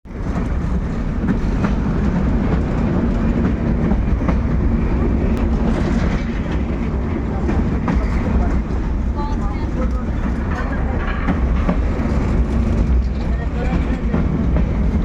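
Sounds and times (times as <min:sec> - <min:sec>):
train rumble and rattle: 0:00.0 - 0:15.0.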